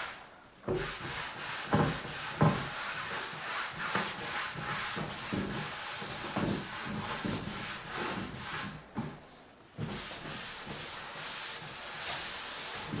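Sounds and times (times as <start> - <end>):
sandpaper rubbing on wood: 0.8 - 8.8, 9.8 - 13.0.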